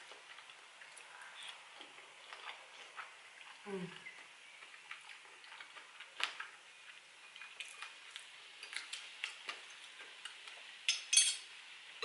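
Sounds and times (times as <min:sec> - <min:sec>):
chewing with mouth clicks: 0:00.0 - 0:10.8.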